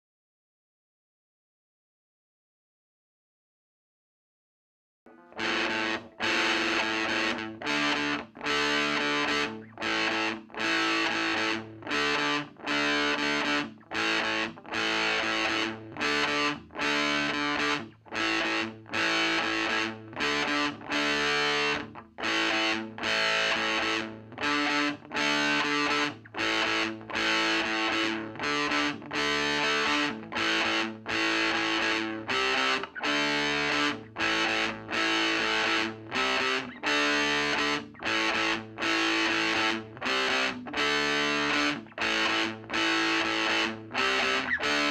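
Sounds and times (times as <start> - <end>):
distorted electric guitar chords: 5.1 - 44.9.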